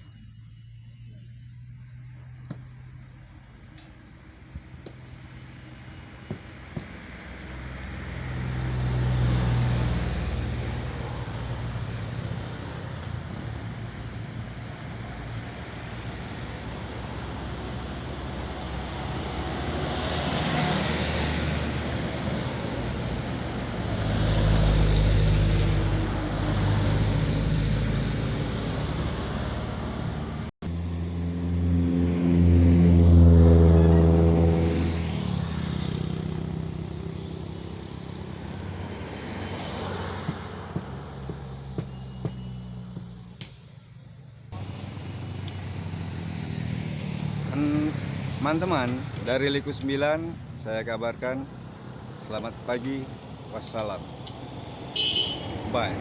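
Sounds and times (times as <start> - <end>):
vehicles passing: 1.4 - 56.0
deep engine passing: 6.5 - 41.2, 44.6 - 56.0.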